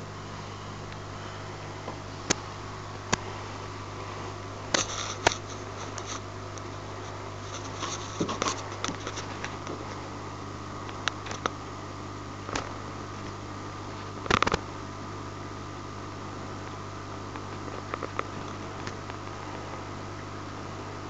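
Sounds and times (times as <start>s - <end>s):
aquarium equipment hum: 0.0s - 21.0s.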